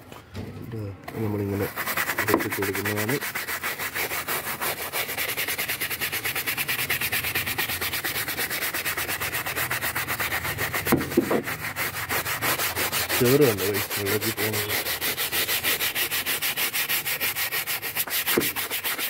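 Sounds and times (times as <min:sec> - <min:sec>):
brush scrubbing wet plastic: 0:01.1 - 0:19.0.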